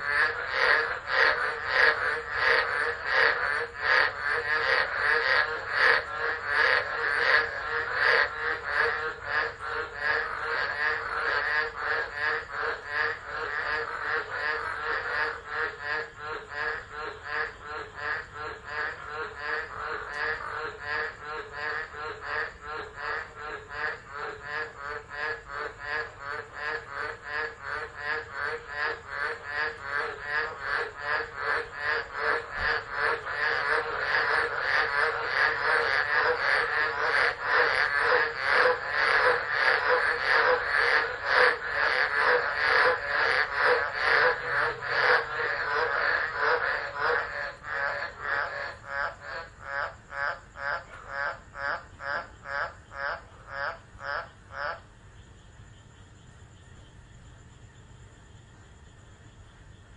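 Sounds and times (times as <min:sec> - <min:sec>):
frogs calling: 0:00.0 - 0:59.9.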